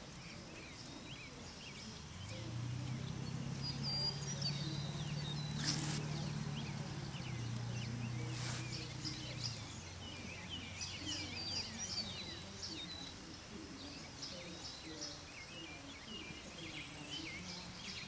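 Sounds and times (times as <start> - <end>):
low steady hum: 0.0 - 17.6
small birds chirping: 0.0 - 18.0.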